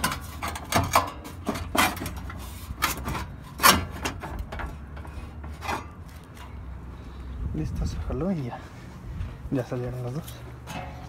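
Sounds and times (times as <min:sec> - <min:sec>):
bumper brackets scraping and clunking: 0:00.0 - 0:11.0.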